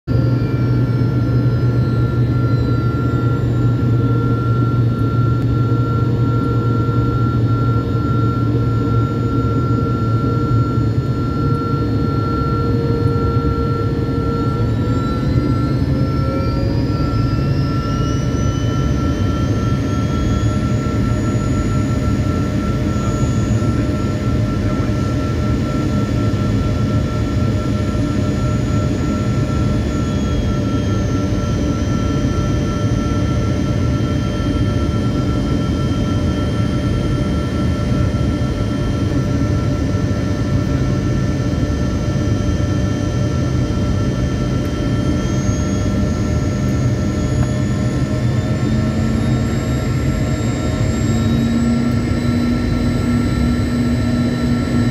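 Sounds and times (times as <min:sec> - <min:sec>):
jet engines rumbling and whining: 0:00.1 - 0:54.9.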